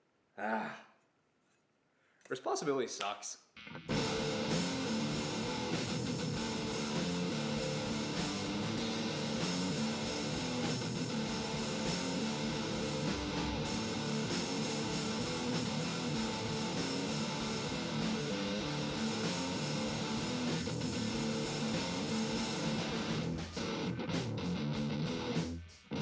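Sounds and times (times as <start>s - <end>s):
rock music with guitar: 3.6s - 26.0s.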